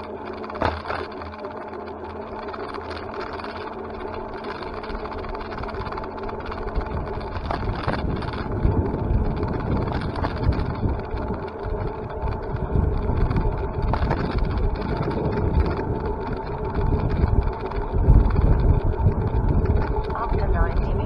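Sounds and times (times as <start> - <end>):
faint steady hum: 0.0 - 21.0
road and wind noise: 0.0 - 21.0.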